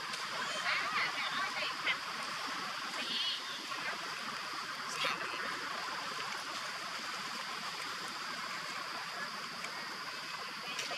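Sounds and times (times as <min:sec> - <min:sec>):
outdoor hiss: 0:00.0 - 0:10.9.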